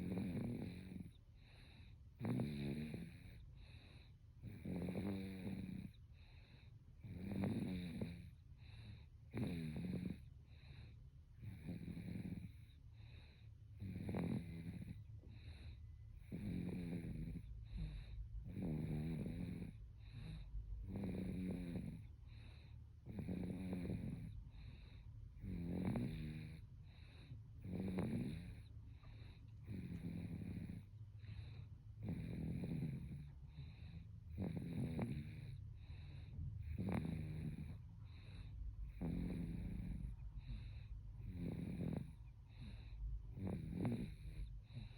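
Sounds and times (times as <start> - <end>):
baby snoring: 0.0 - 44.9.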